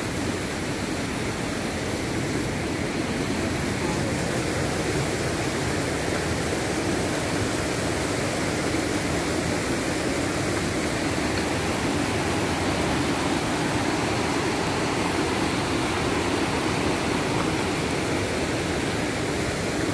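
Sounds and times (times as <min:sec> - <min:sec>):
stream rushing over boulders: 0:00.0 - 0:19.9.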